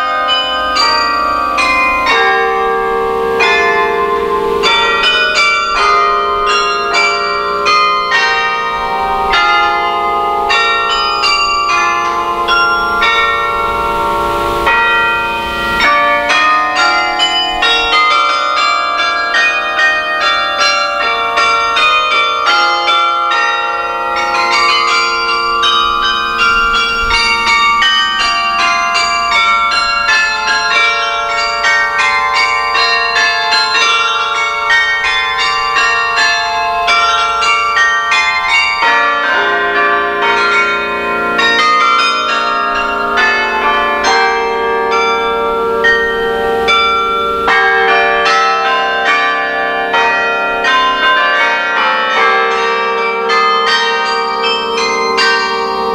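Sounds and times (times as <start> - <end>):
carillon bells playing a carol: 0.0 - 55.9
deep bells: 0.0 - 55.9.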